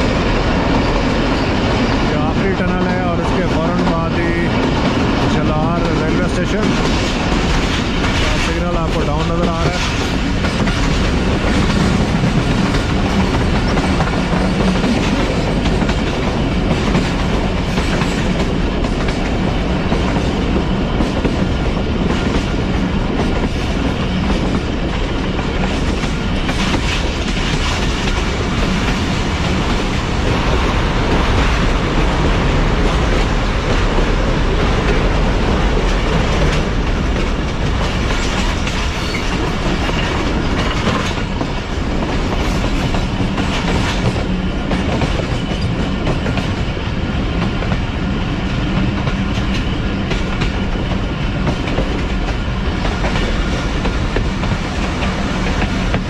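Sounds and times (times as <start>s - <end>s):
train coach rumbling: 0.0s - 56.0s
train wheels clattering on rails: 0.0s - 56.0s.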